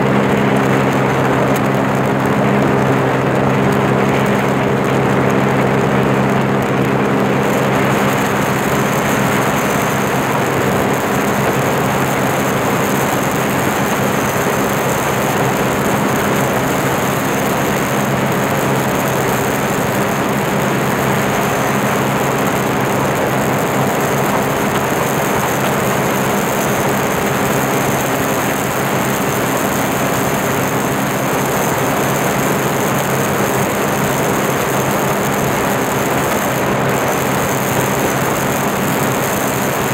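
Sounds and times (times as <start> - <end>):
water rushing: 0.0 - 39.9
watercraft engine running: 0.0 - 39.9.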